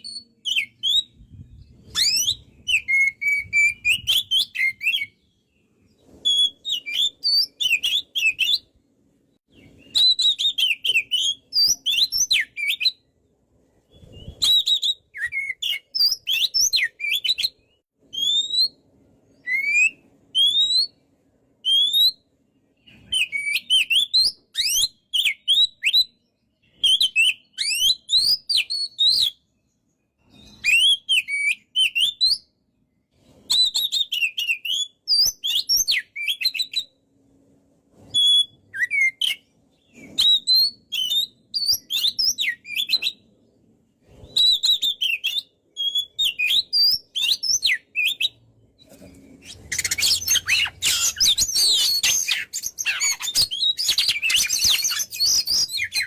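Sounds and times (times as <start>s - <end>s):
bird singing whistled notes: 0.0s - 8.8s, 9.5s - 13.1s, 13.8s - 21.0s, 21.6s - 37.0s, 38.0s - 43.6s, 44.2s - 56.0s.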